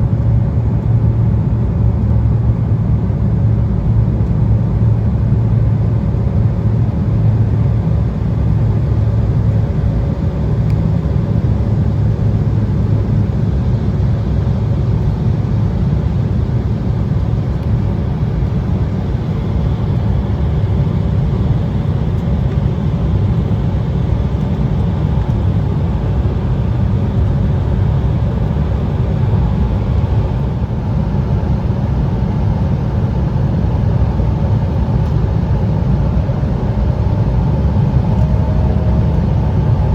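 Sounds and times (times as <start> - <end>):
jet engines rumbling: 1.1 - 39.9
airflow over fuselage: 4.2 - 39.9.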